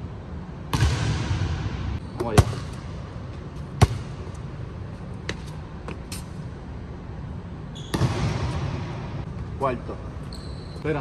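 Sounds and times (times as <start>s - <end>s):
low hum of hall: 0.0s - 11.0s.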